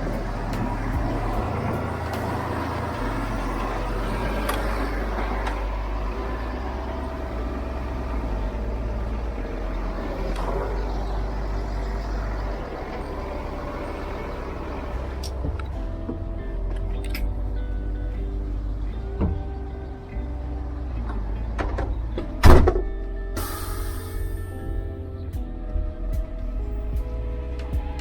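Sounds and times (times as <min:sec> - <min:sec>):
diesel truck engine running: 0:00.0 - 0:28.0.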